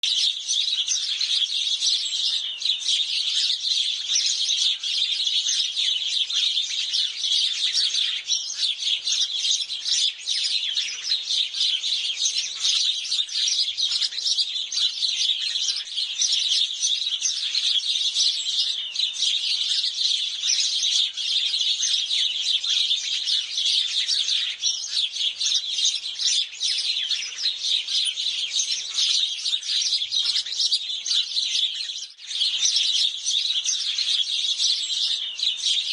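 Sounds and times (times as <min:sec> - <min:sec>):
sparrows chirping: 0:00.0 - 0:35.9.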